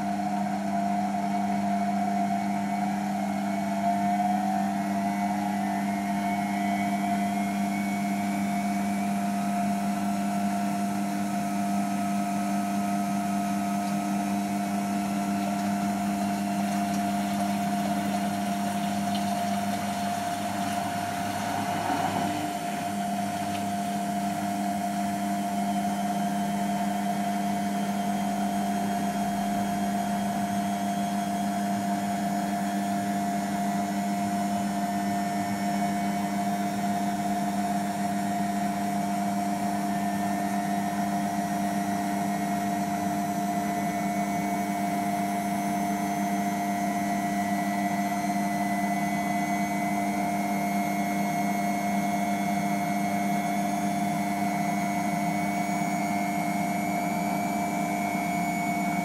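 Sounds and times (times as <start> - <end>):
high motor whine: 0.0 - 59.0
washing machine spinning: 0.0 - 59.0.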